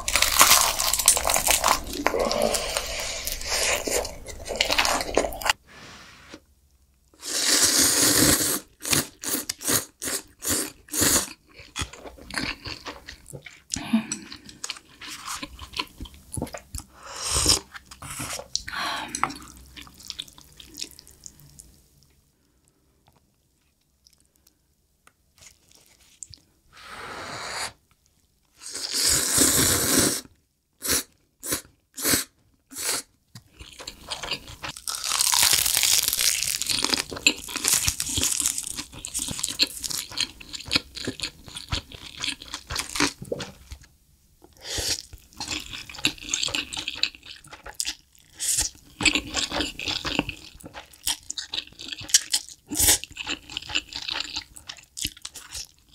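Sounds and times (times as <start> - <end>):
chewing and crunching food: 0.0 - 5.6, 8.6 - 26.5, 33.3 - 55.9.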